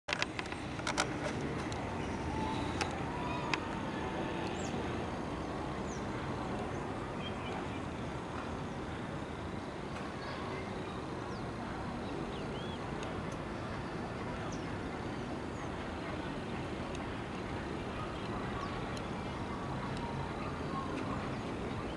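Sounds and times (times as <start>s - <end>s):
distant helicopter flying low: 0.1s - 21.9s
birds chirping: 0.2s - 21.9s.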